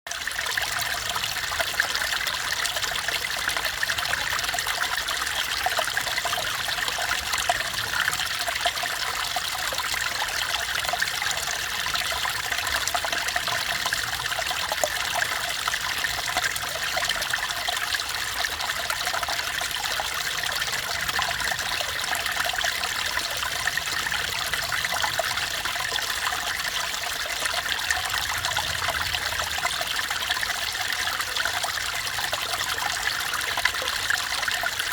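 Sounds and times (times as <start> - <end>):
stream babbling over rocks: 0.1 - 34.9.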